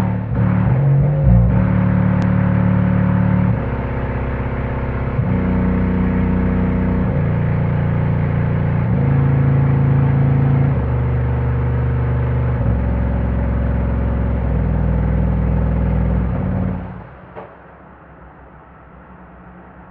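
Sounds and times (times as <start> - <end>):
subwoofer deep bass tones: 0.0 - 17.3.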